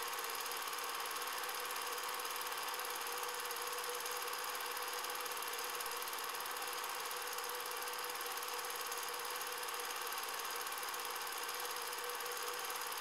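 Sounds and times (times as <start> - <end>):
film projector whirring: 0.0 - 13.0.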